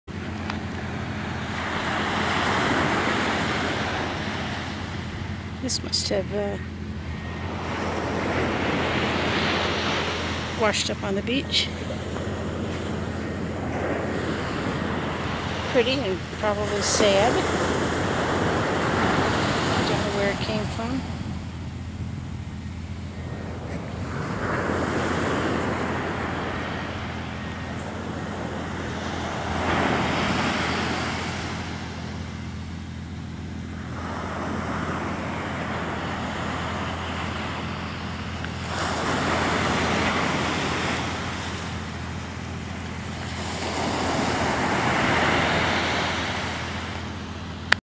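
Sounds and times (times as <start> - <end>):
steady low rumble: 0.1 - 47.8
waves breaking on beach: 0.1 - 47.8.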